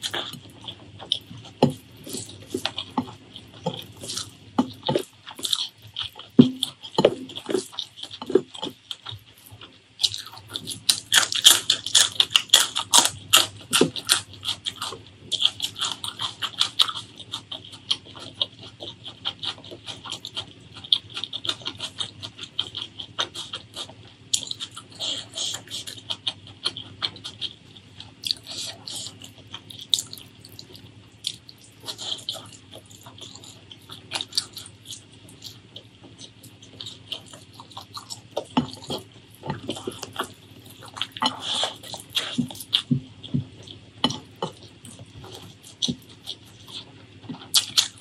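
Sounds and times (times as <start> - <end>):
wet chewing: 0.0 - 48.0.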